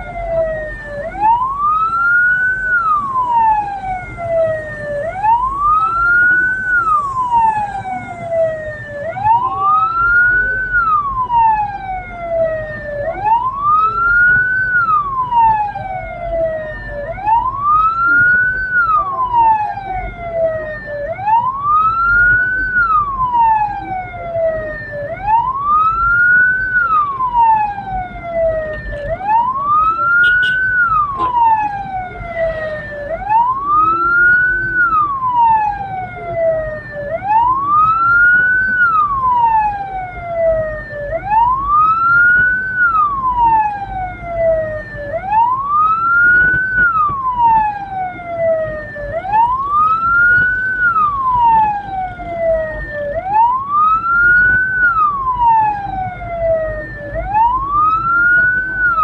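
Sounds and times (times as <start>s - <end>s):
electronic siren wailing: 0.0s - 59.0s
low vehicle rumble: 0.0s - 59.0s.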